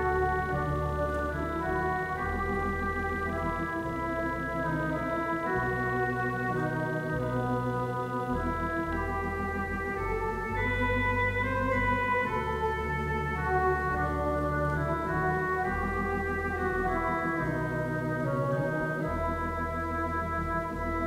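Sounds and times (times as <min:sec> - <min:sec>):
organ playing slow chords: 0:00.0 - 0:21.0.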